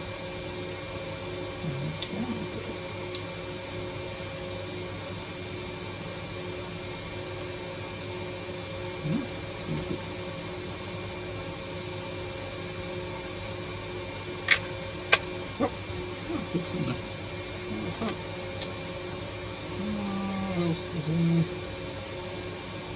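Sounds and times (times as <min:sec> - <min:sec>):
electrical hum: 0:00.0 - 0:22.9.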